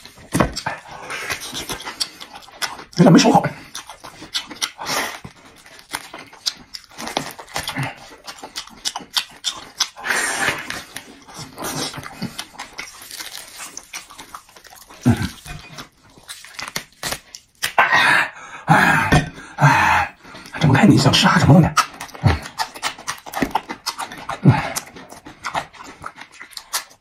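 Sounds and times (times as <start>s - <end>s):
chewing meat on bone: 0.0s - 17.8s, 20.1s - 27.0s.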